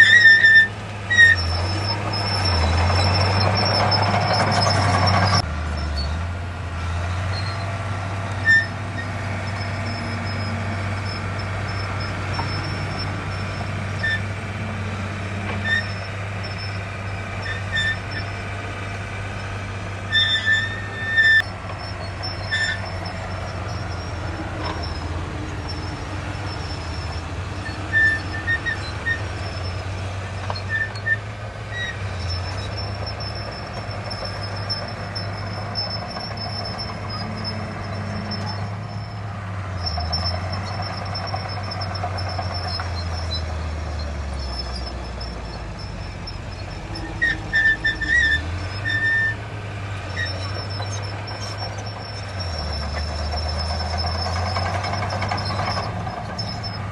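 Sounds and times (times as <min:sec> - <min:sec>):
short high squeaks: 0:00.0 - 0:06.3, 0:07.1 - 0:14.4, 0:15.4 - 0:56.9
diesel engine revving: 0:00.0 - 0:56.9.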